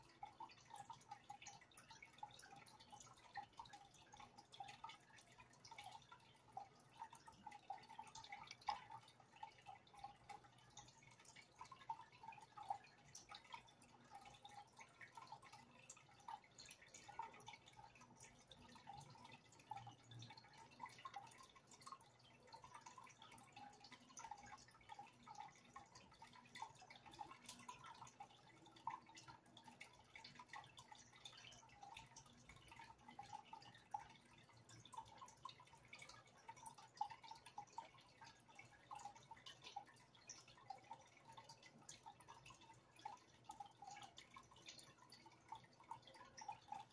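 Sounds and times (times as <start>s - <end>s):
water dripping and trickling: 0.0s - 46.9s.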